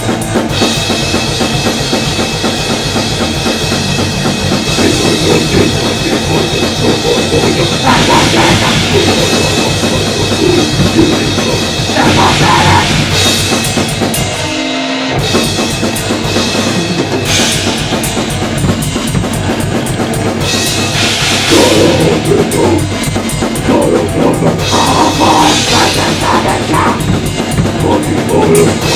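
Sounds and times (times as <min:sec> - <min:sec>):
heavy rock band playing: 0:00.0 - 0:28.9.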